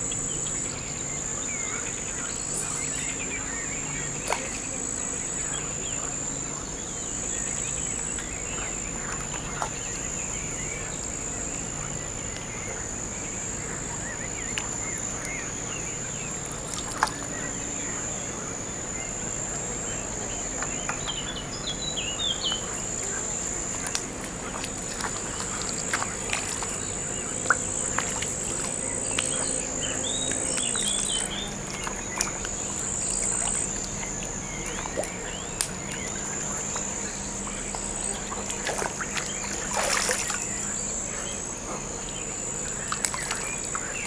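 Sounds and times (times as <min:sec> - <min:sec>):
high-pitched insect trill: 0:00.1 - 0:44.0.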